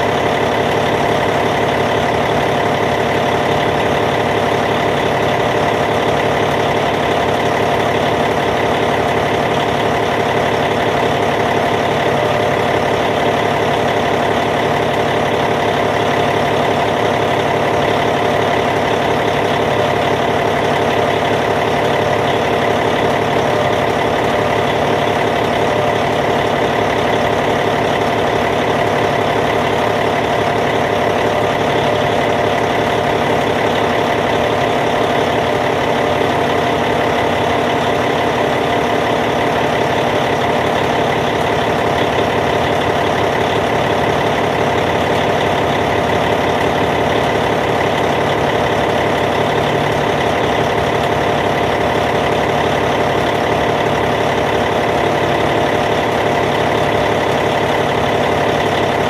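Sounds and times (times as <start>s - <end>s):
bulldozer diesel engine idling: 0.0s - 59.0s.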